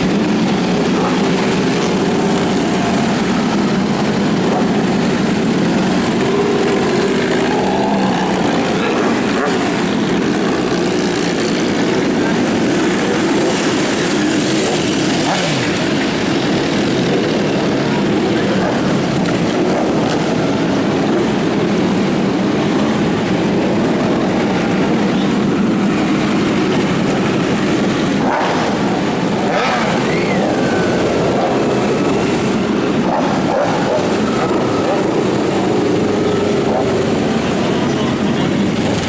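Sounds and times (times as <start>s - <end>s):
motorcycle engines droning: 0.0s - 39.0s.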